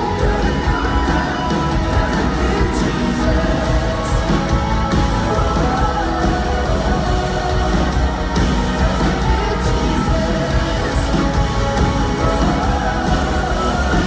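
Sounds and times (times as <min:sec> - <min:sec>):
people singing: 0:00.0 - 0:14.0
worship band playing: 0:00.0 - 0:14.0.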